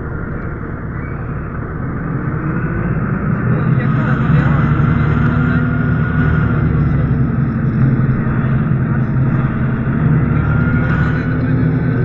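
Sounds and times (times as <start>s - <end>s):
bus engine drone: 0.0s - 12.0s
thin constant whine: 0.0s - 12.0s.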